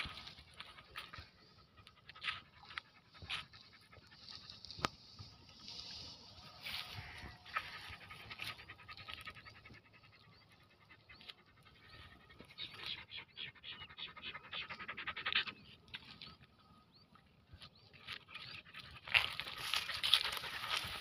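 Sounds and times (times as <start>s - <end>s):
dog panting: 0.0s - 16.5s, 17.9s - 21.0s.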